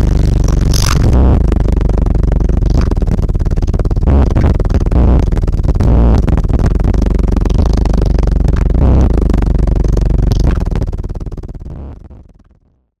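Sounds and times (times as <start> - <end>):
electronic music with heavy bass: 0.0 - 12.4.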